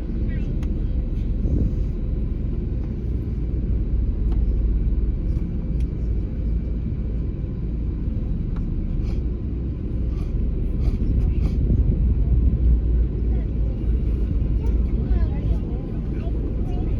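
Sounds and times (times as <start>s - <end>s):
aircraft low rumble: 0.0s - 16.9s.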